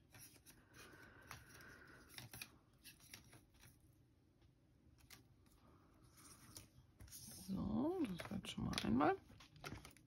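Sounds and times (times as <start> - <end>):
light paper rustling: 0.0 - 10.0.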